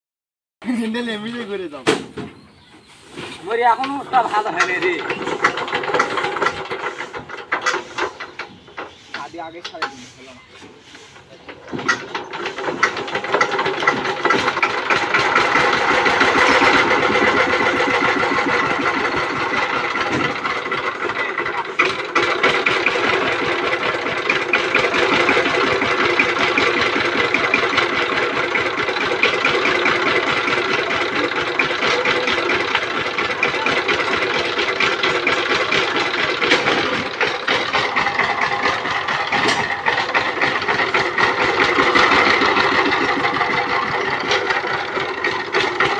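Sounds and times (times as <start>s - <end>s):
diesel engine running with knock: 3.8s - 45.9s.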